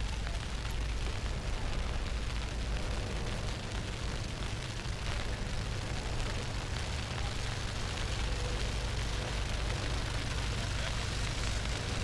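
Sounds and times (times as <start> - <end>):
street noise hiss: 0.0 - 12.0.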